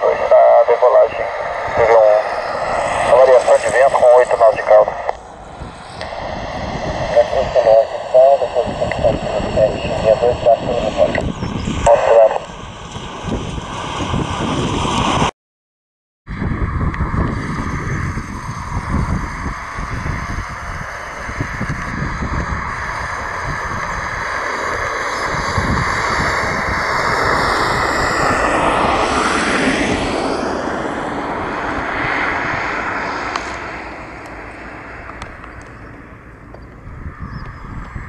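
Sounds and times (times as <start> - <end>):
jet airliner passing: 0.0 - 15.3, 16.3 - 38.0.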